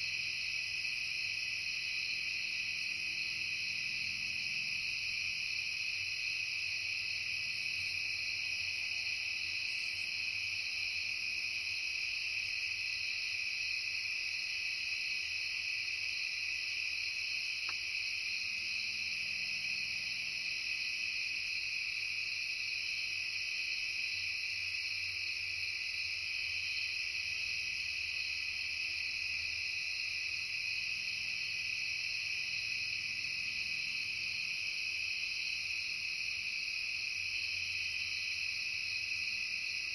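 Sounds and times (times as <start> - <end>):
insects calling in a drone: 0.0 - 39.9.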